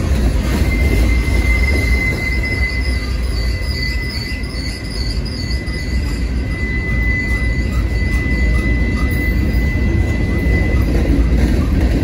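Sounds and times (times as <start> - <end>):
freight train rumbling past: 0.0 - 12.0
high wheel squeal: 0.2 - 12.0
faint wavering squeal: 0.5 - 11.8.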